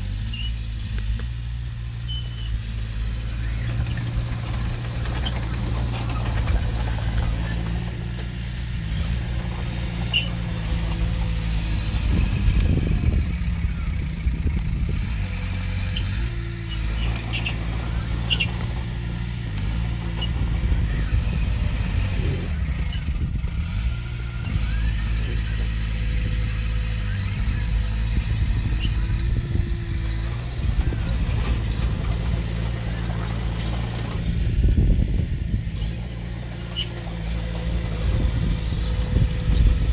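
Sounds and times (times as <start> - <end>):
diesel engine running: 0.0 - 39.9
short high squeaks and clicks: 0.1 - 1.3, 1.9 - 12.7, 15.8 - 34.2, 35.8 - 39.9.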